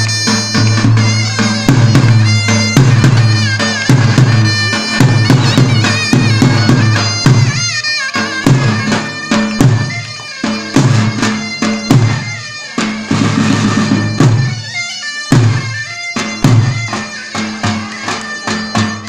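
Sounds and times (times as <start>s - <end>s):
shrill double-reed melody: 0.0s - 19.0s.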